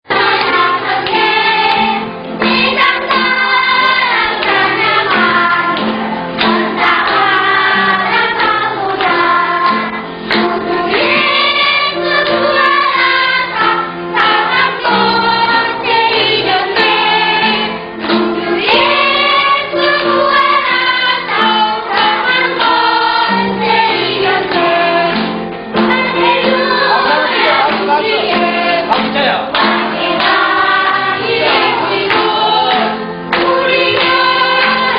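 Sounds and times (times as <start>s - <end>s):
choir singing praise song: 0.1s - 34.9s.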